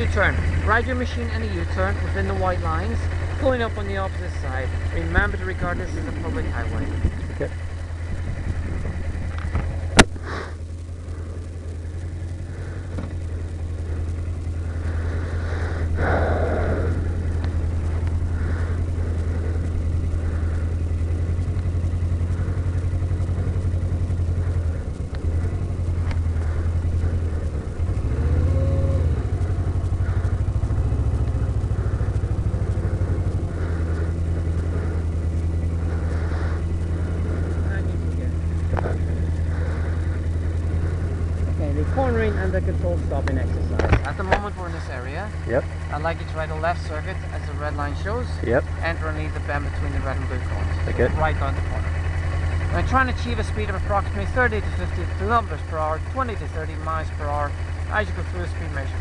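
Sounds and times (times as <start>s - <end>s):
motorcycle engine at low revs: 0.0s - 59.0s.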